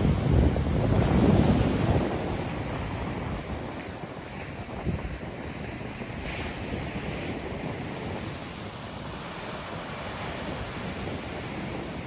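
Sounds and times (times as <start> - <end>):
ocean surf breaking: 0.0 - 12.0
wind rumble on microphone: 0.0 - 12.0.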